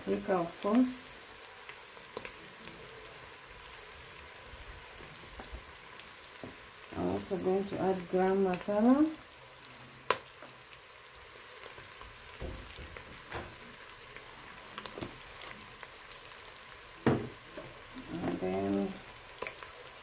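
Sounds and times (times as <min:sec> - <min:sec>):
meat and onions sizzling in a pot: 0:00.0 - 0:20.0.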